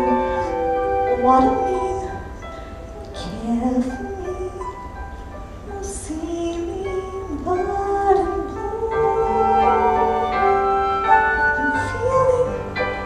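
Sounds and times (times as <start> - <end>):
woman singing ballad: 0.0 - 2.4, 3.0 - 4.9, 5.6 - 13.0
keyboard and pit accompaniment: 0.0 - 13.0.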